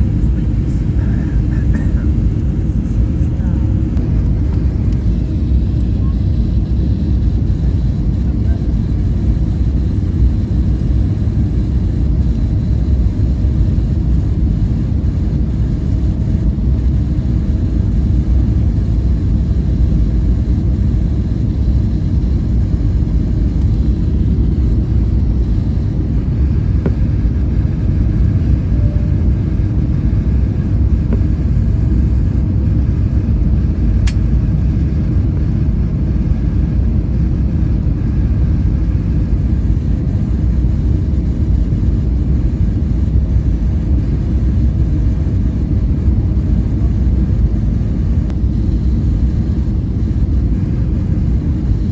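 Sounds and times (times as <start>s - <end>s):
jet engines rumbling in cabin: 0.0s - 51.9s.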